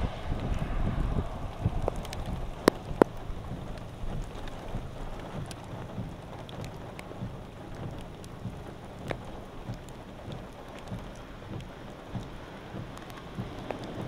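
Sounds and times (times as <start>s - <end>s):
storm rain and wind: 0.0s - 14.0s
sharp ticks: 1.6s - 14.0s.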